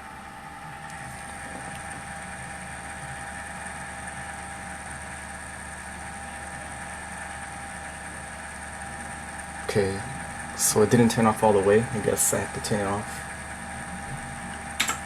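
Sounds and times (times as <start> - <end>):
computer fans humming and whining: 0.0 - 15.0
rumbling vibration: 0.0 - 15.0.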